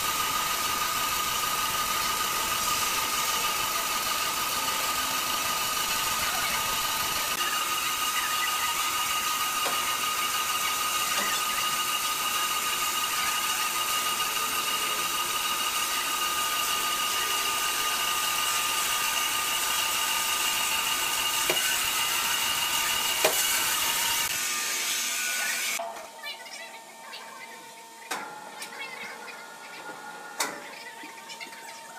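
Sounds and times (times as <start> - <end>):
band saw blade whine: 0.0 - 25.8
saw cutting wood hiss: 0.0 - 25.8.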